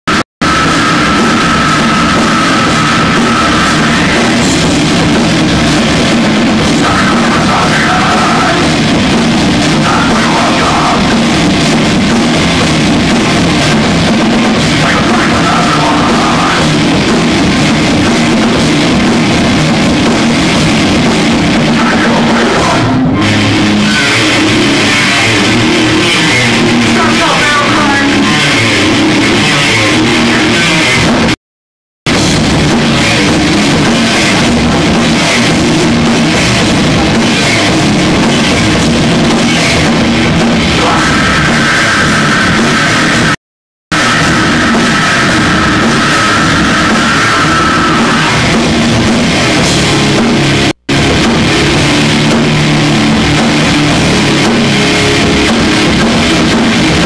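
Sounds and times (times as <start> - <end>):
rock band playing live: 0.1 - 31.4, 32.1 - 57.0.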